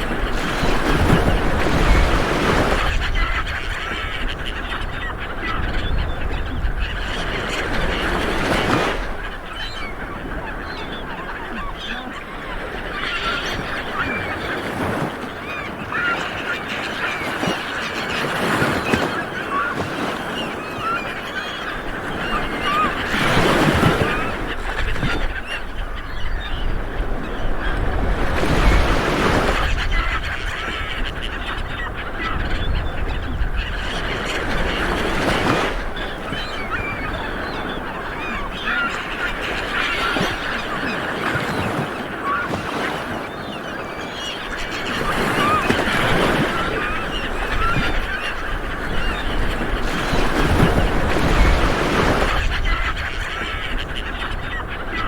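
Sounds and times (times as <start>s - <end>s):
birds calling: 0.0s - 55.0s
waves breaking on a beach: 0.0s - 55.0s.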